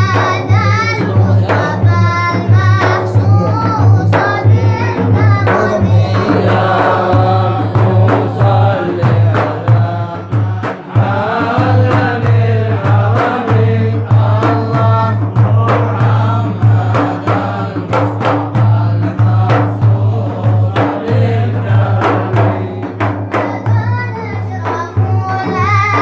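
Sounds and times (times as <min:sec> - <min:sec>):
drum beats: 0:00.0 - 0:26.0
group chanting devotional song: 0:00.0 - 0:26.0.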